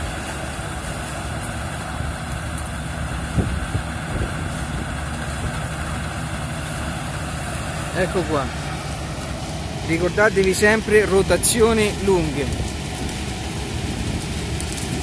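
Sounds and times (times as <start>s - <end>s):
harvester engine drone: 0.0s - 15.0s.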